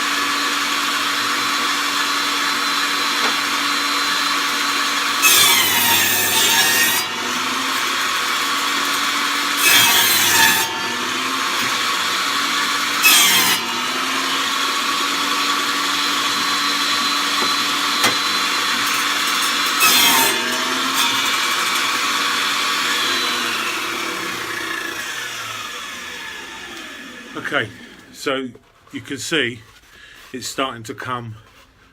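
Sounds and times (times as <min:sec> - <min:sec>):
saw blade cutting board: 0:00.0 - 0:28.2
saw winding down: 0:00.0 - 0:28.2
table saw running: 0:00.0 - 0:28.2.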